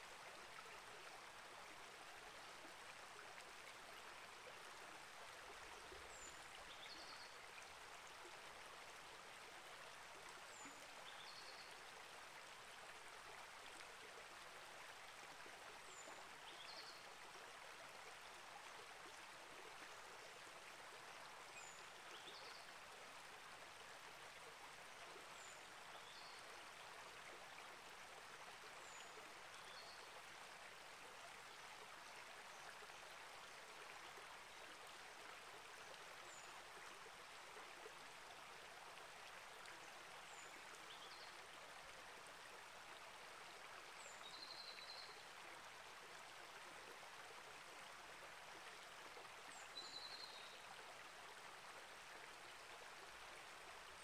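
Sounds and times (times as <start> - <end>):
creek flowing softly: 0.0 - 54.0.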